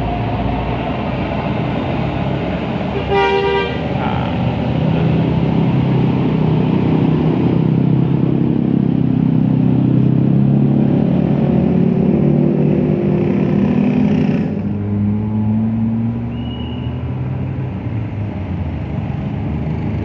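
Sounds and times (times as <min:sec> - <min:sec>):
bus engine passing: 0:00.0 - 0:20.0.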